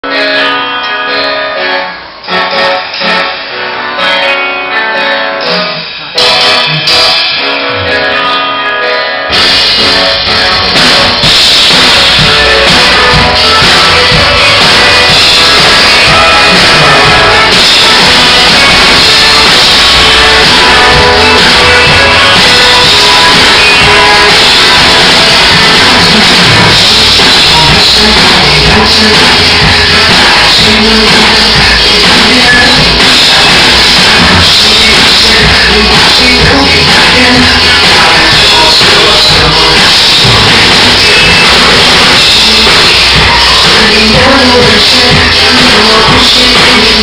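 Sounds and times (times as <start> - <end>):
keyboard and plucked guitar: 0.0 - 47.0
full band with drums: 5.5 - 8.4, 9.3 - 47.0.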